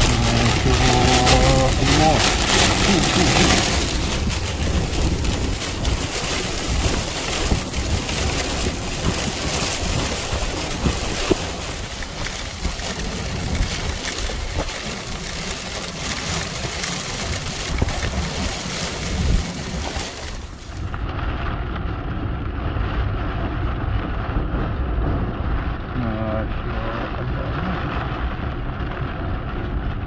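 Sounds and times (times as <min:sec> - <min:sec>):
rushing storm water: 0:00.0 - 0:30.0
wind buffeting microphone: 0:00.0 - 0:30.0.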